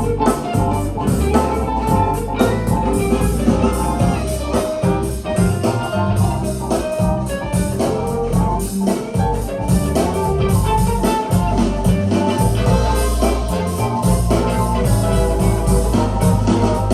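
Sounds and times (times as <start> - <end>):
guitar-led music over speakers: 0.0 - 16.9.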